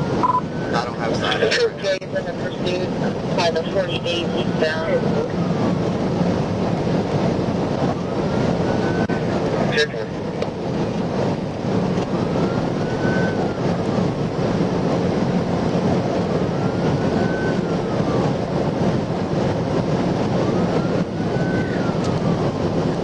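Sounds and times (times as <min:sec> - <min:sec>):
police siren wailing: 0:00.0 - 0:23.0
road and wind noise: 0:00.0 - 0:23.0.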